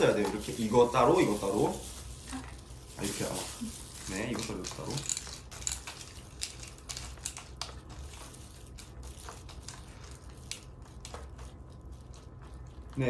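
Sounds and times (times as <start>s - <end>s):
low steady hum: 0.0s - 13.0s
packaging crinkling: 0.0s - 13.0s
utensils clicking and scraping: 0.0s - 13.0s.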